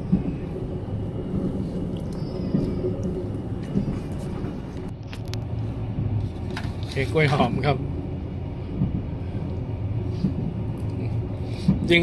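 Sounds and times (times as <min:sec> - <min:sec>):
train rumble from inside: 0:00.0 - 0:12.0.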